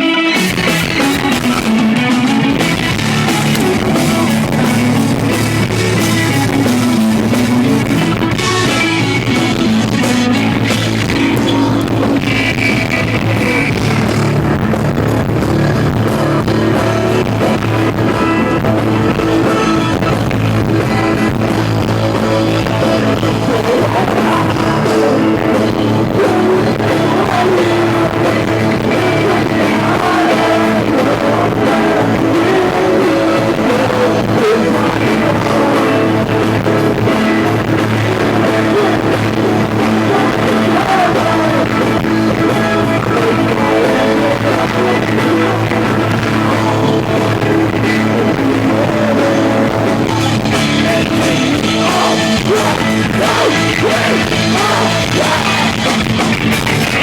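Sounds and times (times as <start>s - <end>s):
electric guitars: 0.0s - 57.0s
live rock band playing: 0.0s - 57.0s.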